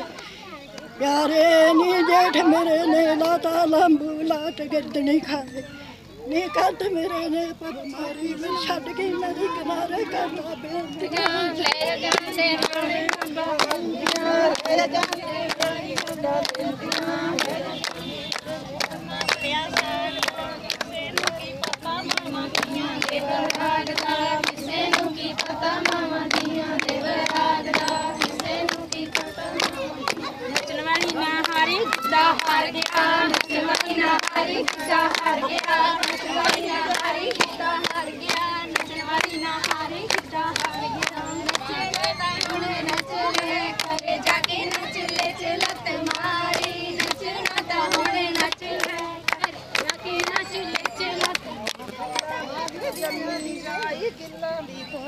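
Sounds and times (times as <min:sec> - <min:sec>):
group of women singing: 0:00.0 - 0:00.2, 0:00.9 - 0:05.6, 0:06.4 - 0:55.0
hand claps: 0:09.6 - 0:54.4.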